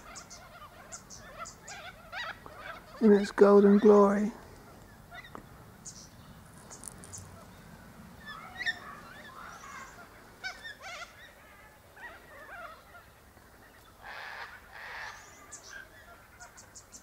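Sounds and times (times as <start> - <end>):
wild birds calling: 0.0 - 17.0.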